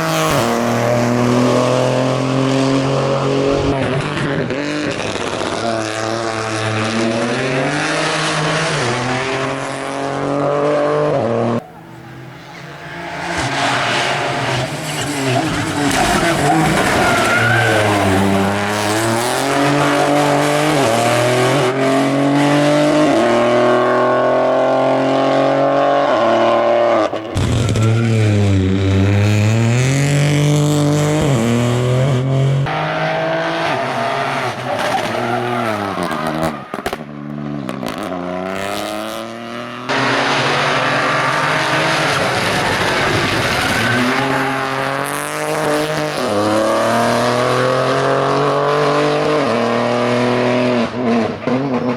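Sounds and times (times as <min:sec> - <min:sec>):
rally car engine accelerating: 0:00.0 - 0:51.9.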